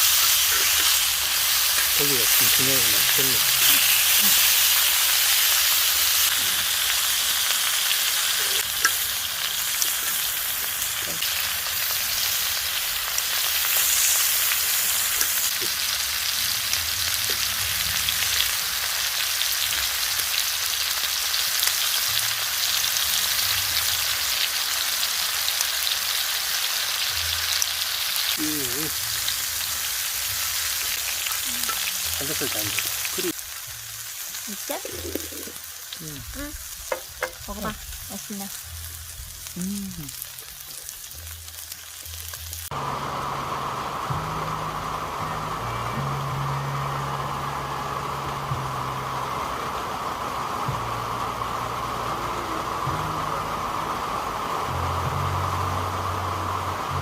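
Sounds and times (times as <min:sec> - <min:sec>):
meat sizzling on a grill: 0:00.0 - 0:57.0.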